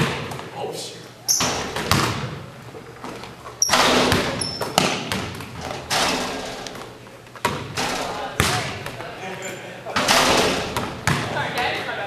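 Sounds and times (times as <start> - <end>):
basketballs bouncing on gym floor: 0.0 - 0.5, 1.3 - 9.1, 10.0 - 11.8.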